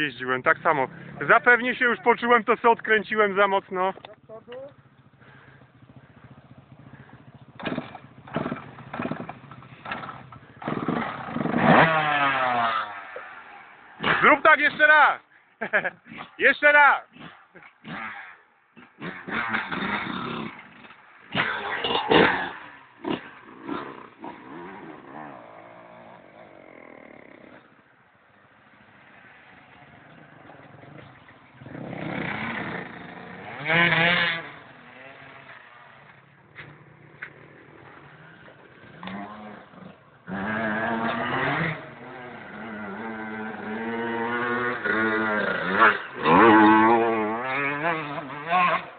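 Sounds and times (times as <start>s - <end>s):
motorcycle engine revving: 0.0s - 14.9s, 17.1s - 48.9s.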